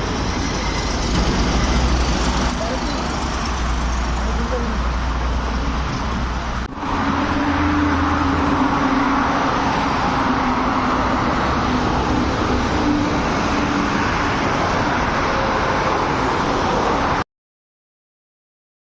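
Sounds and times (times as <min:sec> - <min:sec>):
highway traffic noise: 0:00.0 - 0:17.2.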